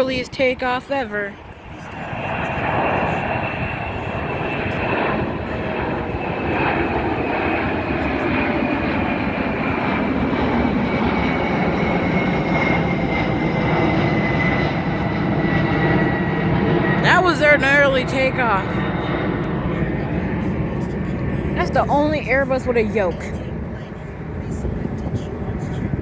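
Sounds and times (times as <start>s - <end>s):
jet engine roar with high whine: 0.0s - 26.0s.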